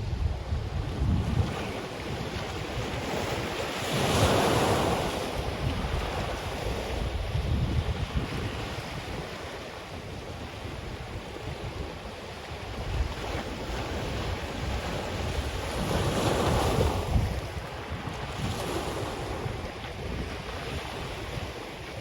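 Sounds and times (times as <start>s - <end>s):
ocean waves breaking on beach: 0.0s - 22.0s
wind buffeting microphone: 0.0s - 22.0s.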